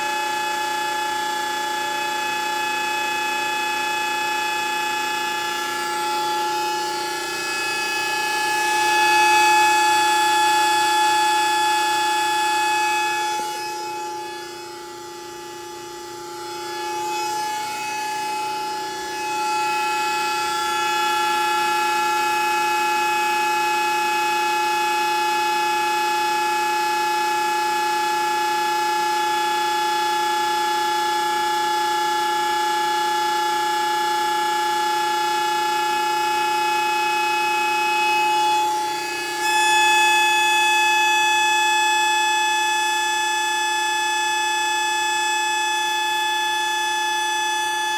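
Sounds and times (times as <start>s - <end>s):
hydraulic pump whine: 0.0s - 47.9s.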